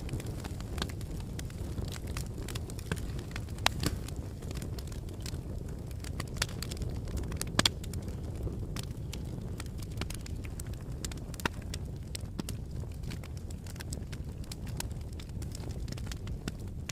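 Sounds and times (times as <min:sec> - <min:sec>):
fire crackling and popping: 0:00.0 - 0:16.9
fire low rumble: 0:00.0 - 0:16.9.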